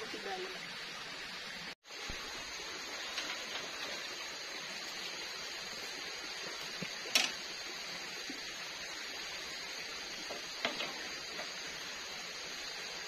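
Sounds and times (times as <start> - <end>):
forest insects humming: 0.0 - 13.0.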